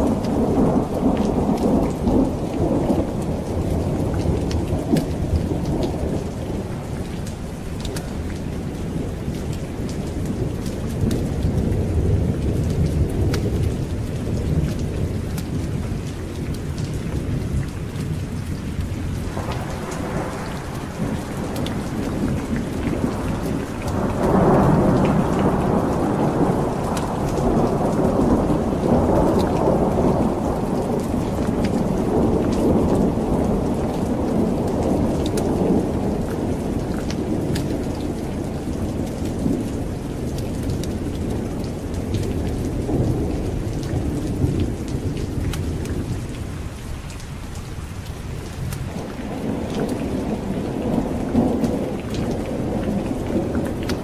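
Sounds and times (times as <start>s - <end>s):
rolling thunder: 0.0s - 47.0s, 47.8s - 54.0s
heavy rain: 0.0s - 54.0s.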